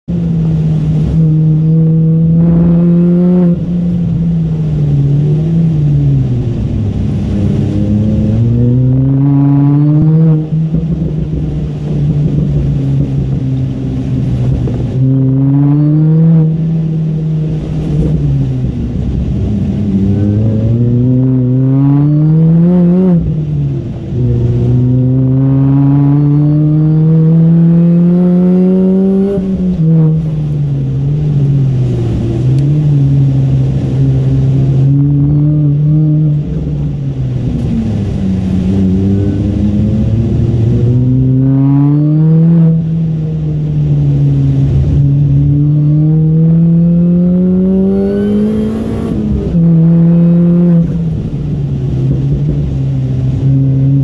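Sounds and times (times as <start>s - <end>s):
car engine revving hard: 0.1s - 54.0s.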